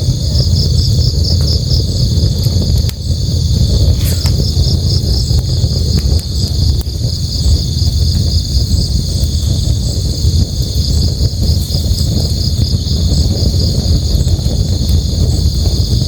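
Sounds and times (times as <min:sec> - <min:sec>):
campfire crackles: 0:00.0 - 0:16.0
crickets chirping: 0:00.0 - 0:16.0.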